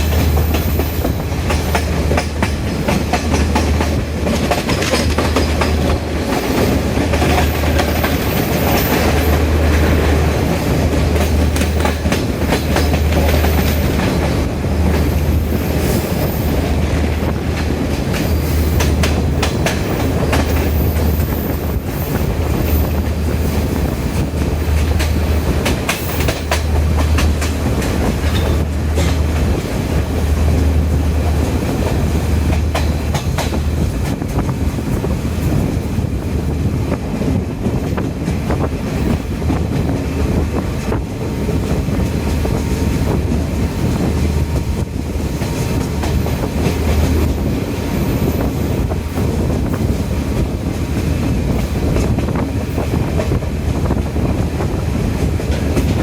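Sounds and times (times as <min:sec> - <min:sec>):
train low rumble: 0:00.0 - 0:56.0
train wheels clicking over rail joints: 0:00.0 - 0:56.0.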